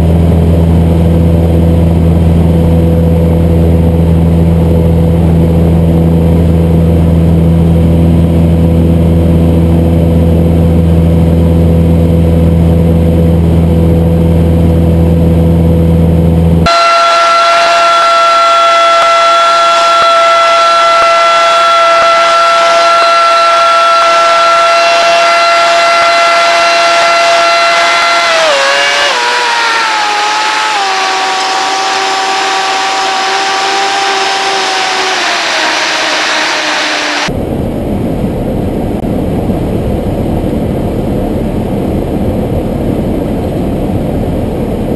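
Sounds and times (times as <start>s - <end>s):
high multi-tone whine: 0.0s - 37.4s
airplane engine and propeller drone: 0.0s - 44.9s.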